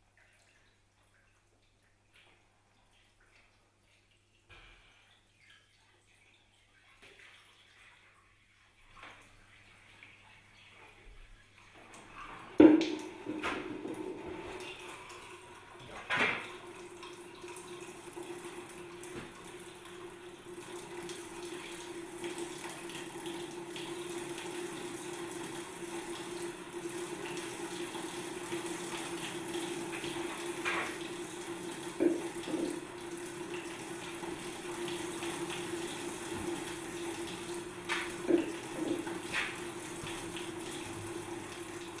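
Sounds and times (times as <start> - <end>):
water trickling onto waterwheel: 0.0 - 42.0.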